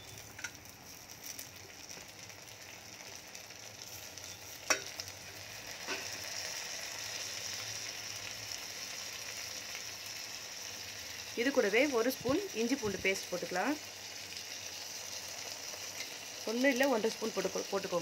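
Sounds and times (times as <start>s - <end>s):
onions and tomatoes sizzling in oil: 0.0s - 18.0s.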